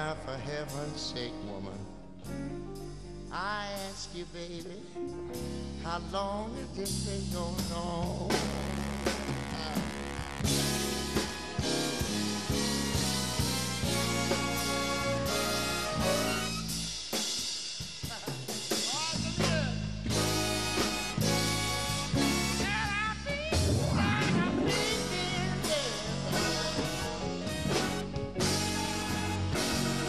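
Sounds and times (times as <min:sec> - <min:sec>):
big band playing slow jazz-blues: 0:00.0 - 0:30.0
drum kit with cymbals: 0:02.2 - 0:30.0.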